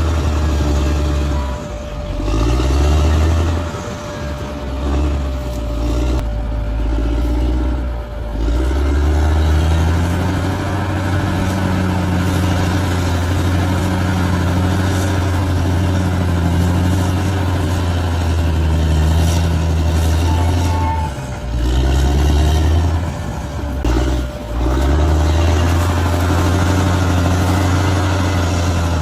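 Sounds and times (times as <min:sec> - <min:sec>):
bulldozer diesel engine: 0:00.0 - 0:29.0.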